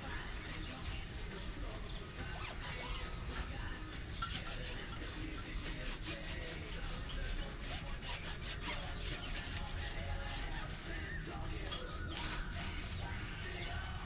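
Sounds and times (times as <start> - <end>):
hand rubbing tire: 0.0 - 13.8.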